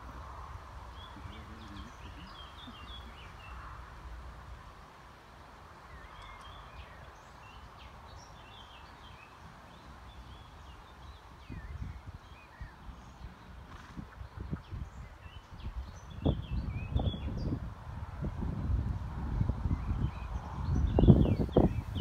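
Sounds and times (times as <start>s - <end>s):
small birds chirping: 0.0s - 3.8s, 5.8s - 17.6s, 19.6s - 22.0s.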